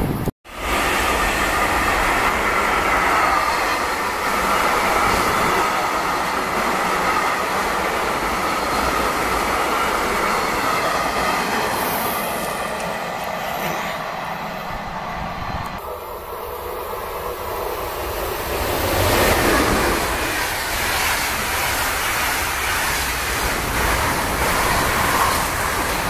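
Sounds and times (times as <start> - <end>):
freight train wheels on rail: 0.0 - 26.0.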